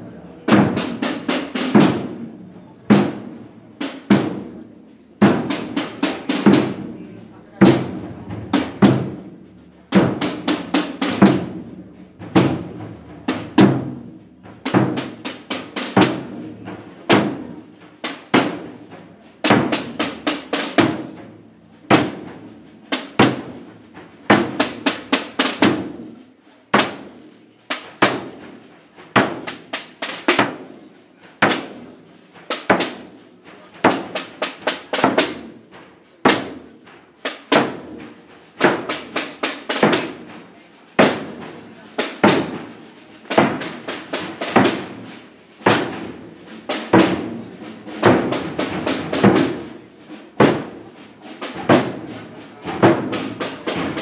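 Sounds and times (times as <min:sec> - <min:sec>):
marching drums: 0:00.0 - 0:54.0.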